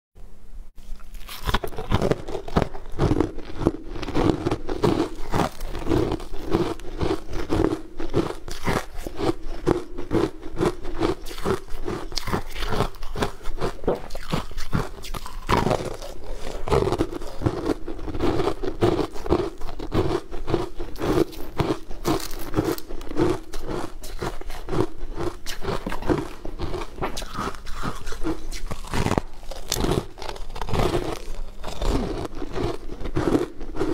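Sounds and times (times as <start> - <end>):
crunching frozen food: 0.8 - 33.9.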